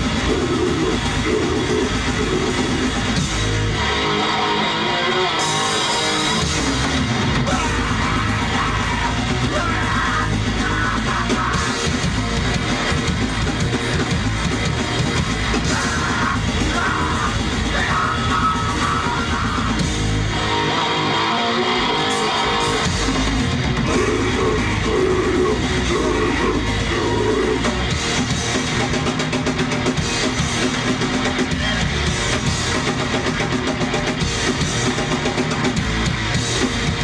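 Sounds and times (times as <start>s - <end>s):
live heavy rock band: 0.0s - 37.0s
yelled vocals: 0.0s - 37.0s.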